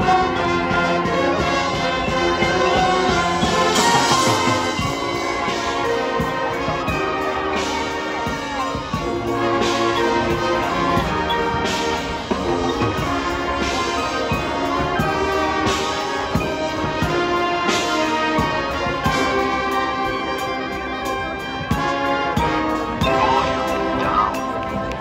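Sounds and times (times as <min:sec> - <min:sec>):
brass horns holding chords: 0:00.0 - 0:25.0
drumline percussion: 0:00.0 - 0:25.0.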